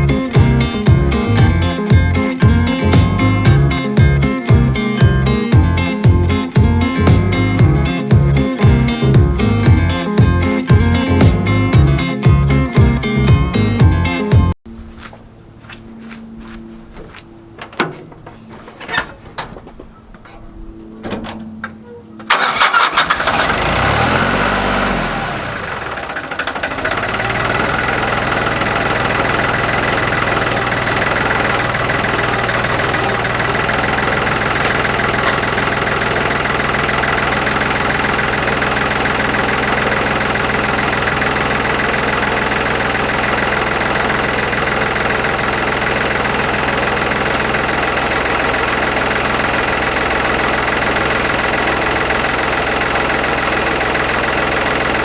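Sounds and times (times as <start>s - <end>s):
tractor diesel engine starting and idling: 0.0s - 14.0s, 17.6s - 55.0s.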